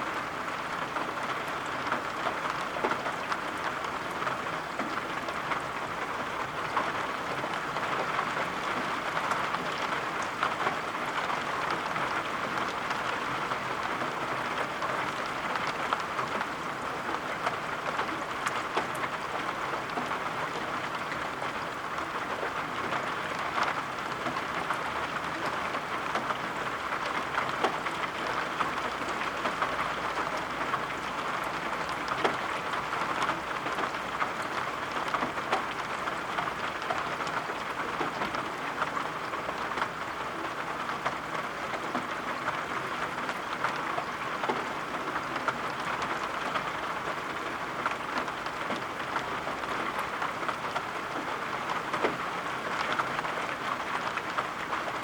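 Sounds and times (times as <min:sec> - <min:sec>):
steady rain with dripping drops: 0:00.0 - 0:55.0.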